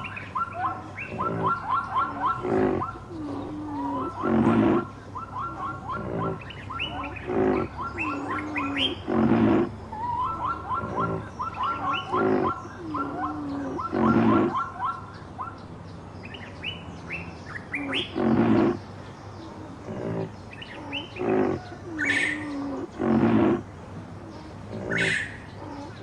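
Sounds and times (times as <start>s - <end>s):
large animal calling: 0.0s - 15.0s, 17.8s - 26.0s
birds chirping: 0.0s - 26.0s.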